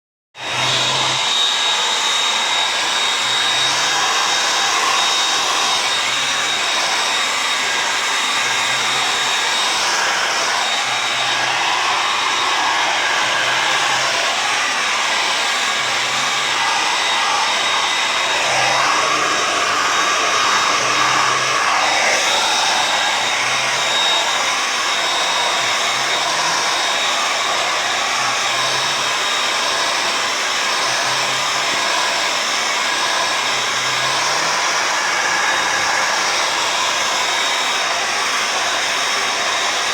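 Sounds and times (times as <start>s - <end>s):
high motor whine: 0.4s - 39.6s
hairdryer blowing air: 0.4s - 39.9s.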